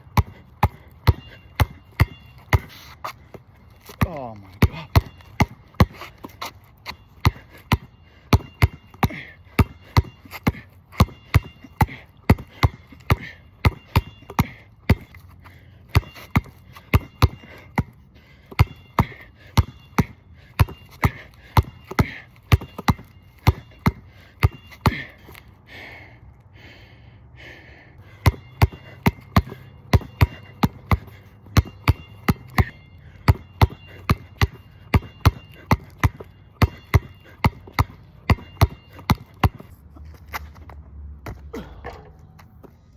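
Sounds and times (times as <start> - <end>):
basketball bouncing on wet court: 0.1 - 2.8, 3.9 - 15.1, 15.9 - 25.1, 28.2 - 39.7.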